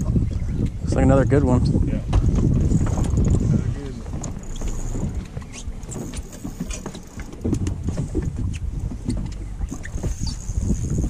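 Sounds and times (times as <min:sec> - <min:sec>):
water slapping boat hull: 0:00.0 - 0:11.0
wind on microphone: 0:00.0 - 0:11.0.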